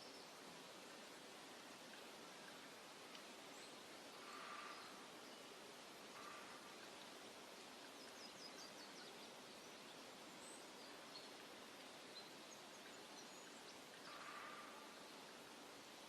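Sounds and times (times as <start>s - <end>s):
distant birds chirping: 0.0s - 16.0s
steady hiss: 0.0s - 16.0s.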